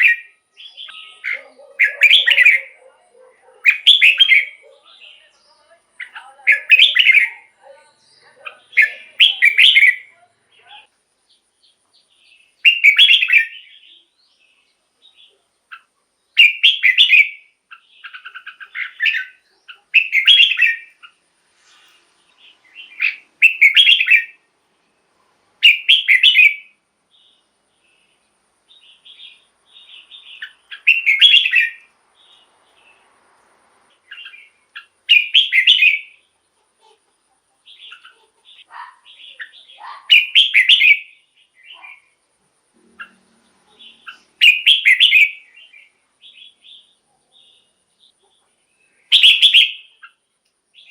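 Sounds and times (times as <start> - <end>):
bird singing warbled phrases: 0.0 - 33.2, 33.8 - 50.9
soft bird chirps: 0.0 - 50.9.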